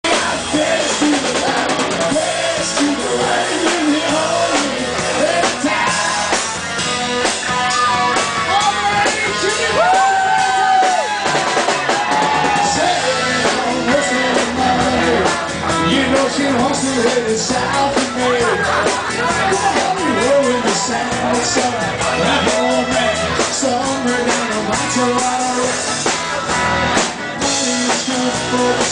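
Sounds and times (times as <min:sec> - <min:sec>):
live rock band playing: 0:00.0 - 0:28.9.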